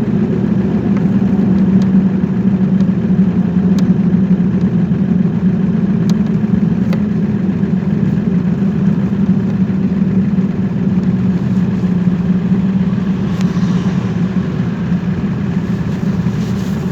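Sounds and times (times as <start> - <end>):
vehicle engine droning: 0.0 - 16.9.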